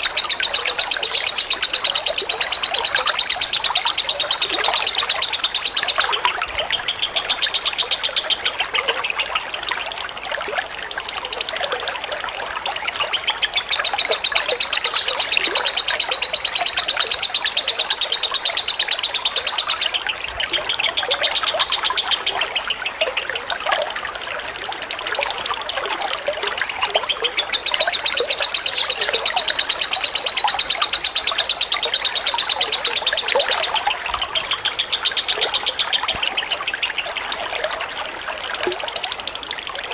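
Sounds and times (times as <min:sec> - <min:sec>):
lovebird chattering trill: 0:00.0 - 0:39.9
water trickling: 0:00.0 - 0:39.9.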